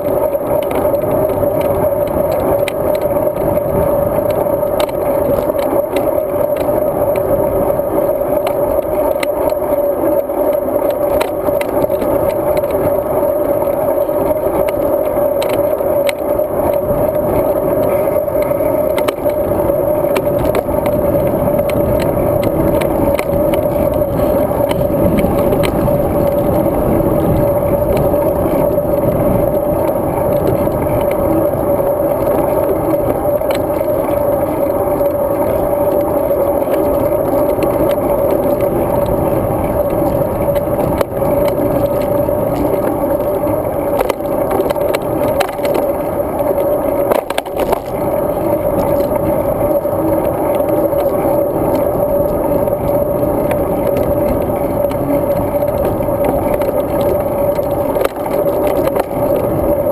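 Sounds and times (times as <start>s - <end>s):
bicycle tyre and wind noise: 0.0s - 59.9s
constant hum: 0.0s - 59.9s
small rattles and clicks: 0.0s - 59.9s.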